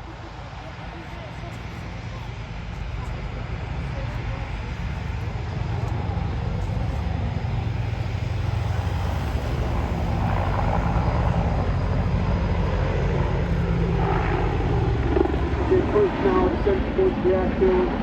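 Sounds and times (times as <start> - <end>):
aircraft engine rumble: 0.0 - 18.0.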